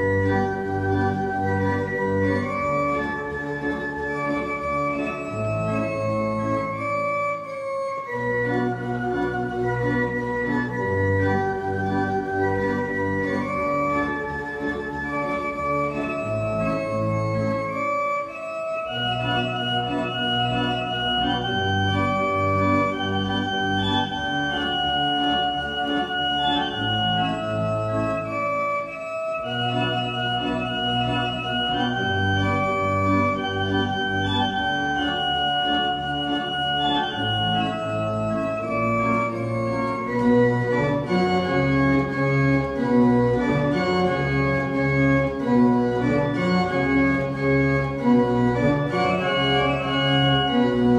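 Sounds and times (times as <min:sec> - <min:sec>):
organ music: 0:00.0 - 0:50.9.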